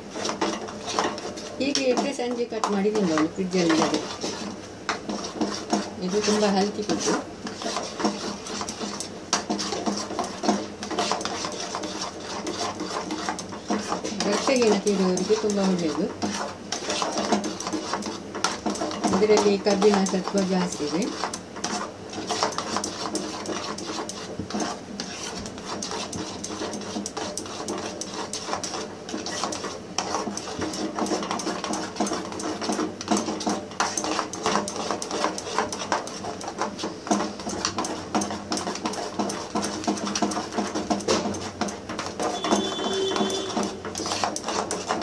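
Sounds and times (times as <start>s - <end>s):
metal ladle scraping a steel pot: 0.0s - 45.0s.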